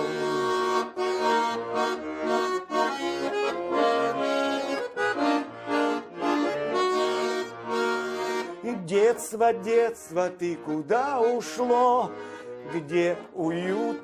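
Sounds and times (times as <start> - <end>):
accordion melody: 0.0 - 14.0.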